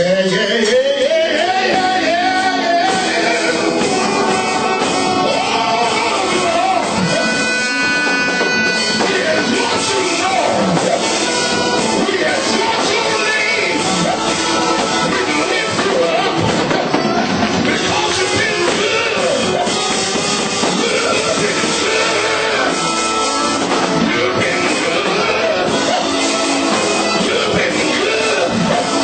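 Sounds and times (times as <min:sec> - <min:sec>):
fast gospel music: 0:00.0 - 0:29.0
voices singing: 0:00.0 - 0:29.0.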